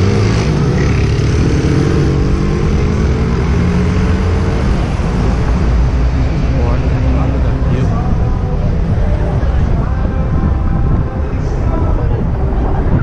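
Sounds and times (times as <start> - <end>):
passing vehicle engine: 0.0 - 13.0
road rumble: 0.0 - 13.0
street traffic: 0.0 - 13.0
wind on microphone: 0.0 - 13.0.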